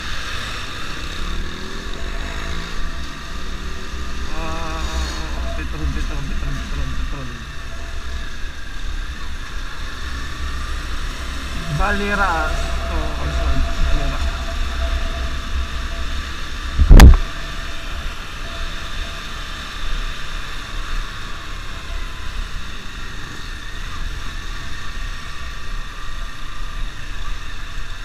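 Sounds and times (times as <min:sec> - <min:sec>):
motorcycle engine rumble: 0:00.0 - 0:24.6.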